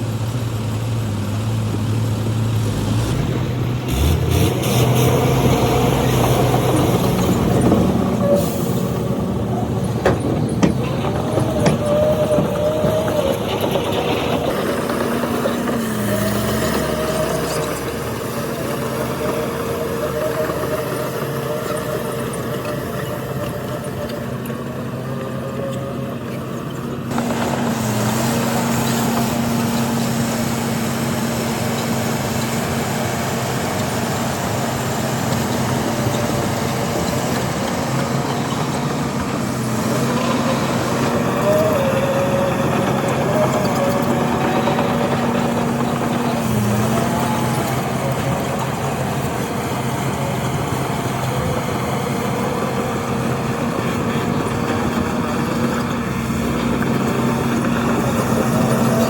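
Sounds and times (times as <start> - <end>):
diesel earthmoving machines running: 0.0 - 59.0.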